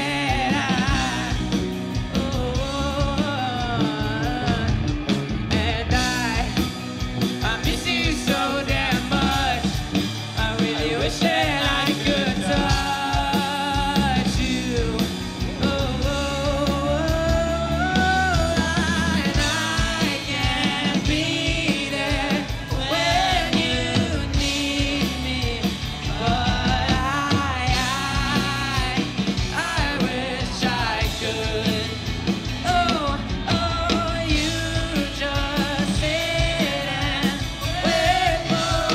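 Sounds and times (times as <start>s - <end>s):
person singing: 0.0s - 6.7s, 7.3s - 38.9s
drums: 0.0s - 38.9s
electric guitars: 0.0s - 38.9s.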